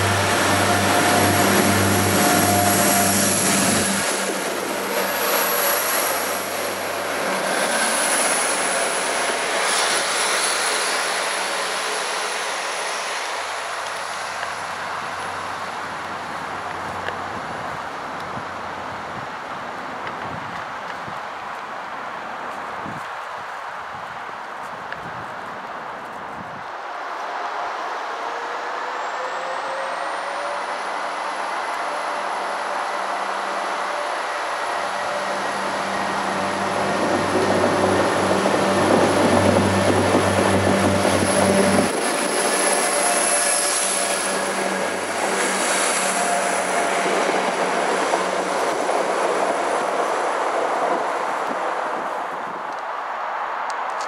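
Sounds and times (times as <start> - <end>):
train passing at speed: 0.0 - 54.0.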